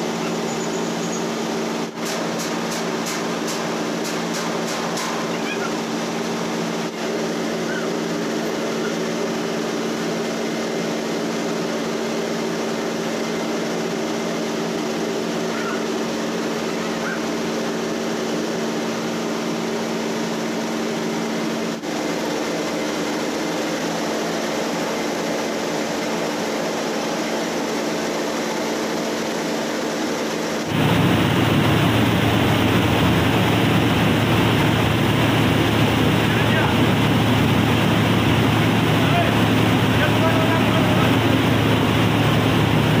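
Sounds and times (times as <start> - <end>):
rice mill machine drone: 0.0 - 43.0.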